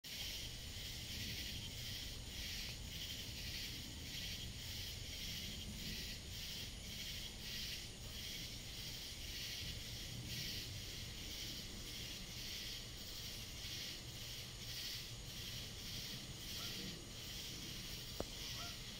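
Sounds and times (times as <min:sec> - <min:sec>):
insects buzzing: 0:00.0 - 0:18.9.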